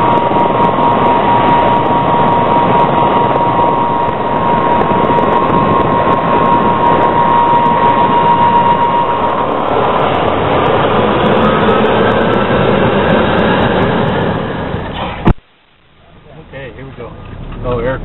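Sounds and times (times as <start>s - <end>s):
aircraft engines rushing: 0.0s - 15.4s
high engine whine: 0.0s - 18.0s.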